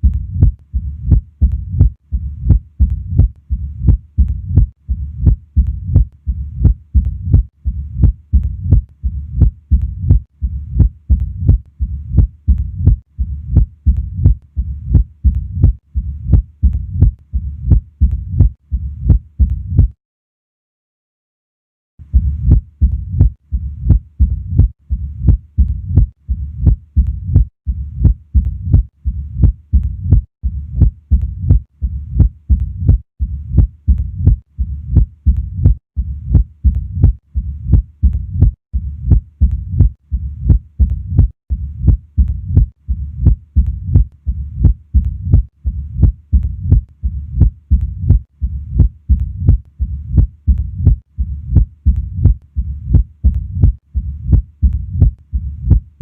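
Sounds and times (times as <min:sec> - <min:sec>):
clicking heart sound: 0:00.0 - 0:20.0, 0:22.1 - 0:56.0
low rumbling heart murmur: 0:00.0 - 0:20.0, 0:22.1 - 0:55.9.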